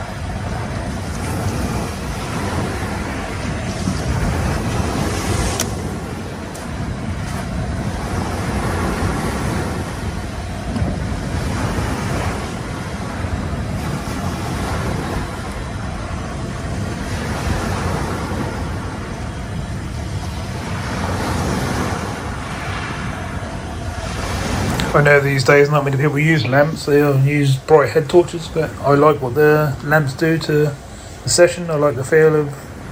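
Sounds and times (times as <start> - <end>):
surf washing on beach: 0.0 - 32.9
wind buffeting microphone: 0.0 - 32.9.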